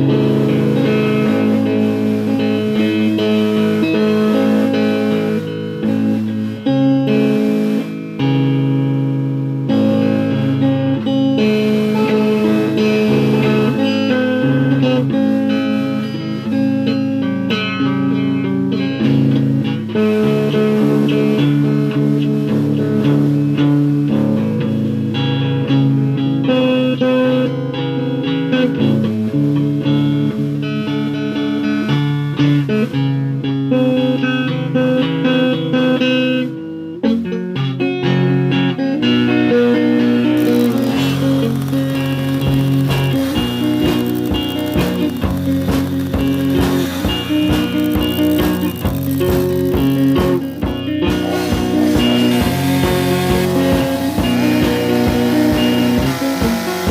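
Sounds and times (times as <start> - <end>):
plucked guitar music: 0.0 - 56.9.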